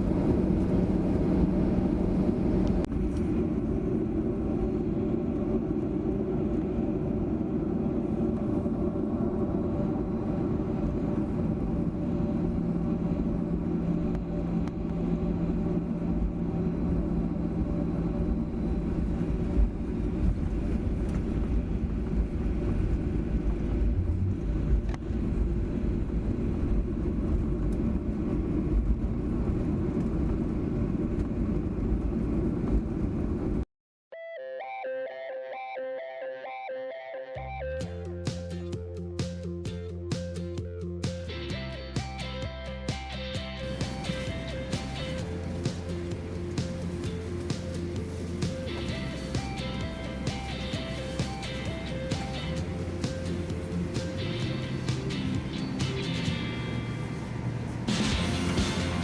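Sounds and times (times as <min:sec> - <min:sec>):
airplane cabin rumble: 0:00.0 - 0:33.6, 0:37.8 - 0:59.0
low hum: 0:00.0 - 0:33.6, 0:37.4 - 0:59.0.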